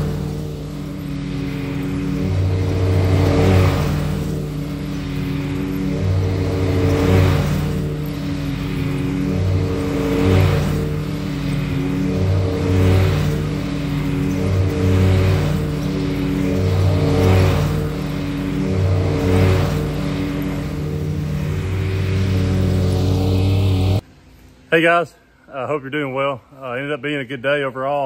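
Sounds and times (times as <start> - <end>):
mower blade and deck noise: 0.0 - 24.5
riding mower engine hum: 0.0 - 25.7.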